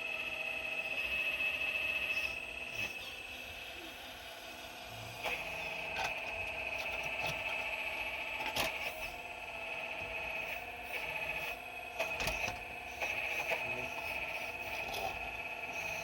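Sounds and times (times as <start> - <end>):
excavator machinery whine: 0.0 - 16.0.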